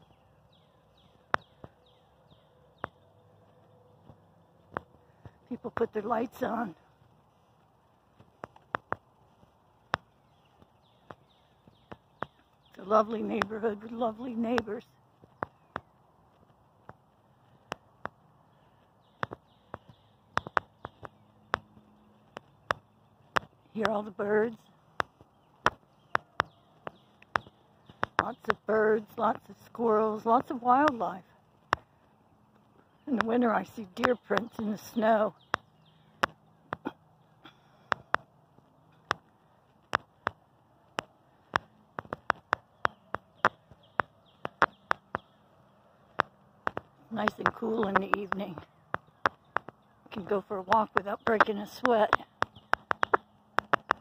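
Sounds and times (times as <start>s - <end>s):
faint birds: 0.0s - 54.0s
footsteps on pavement: 0.0s - 54.0s.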